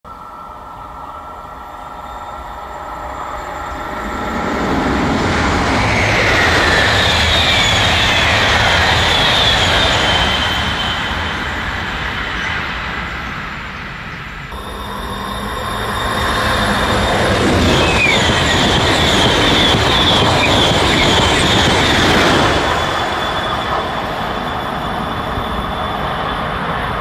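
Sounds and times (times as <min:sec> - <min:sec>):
train rumble in tunnel: 0:00.0 - 0:27.0
faint high whine: 0:00.1 - 0:11.6, 0:14.1 - 0:27.0.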